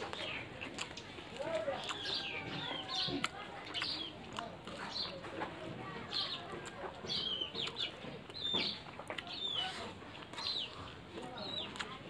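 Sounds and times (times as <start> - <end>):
chickens calling: 0.0 - 11.9
eating by hand clicks and smacks: 0.0 - 12.0.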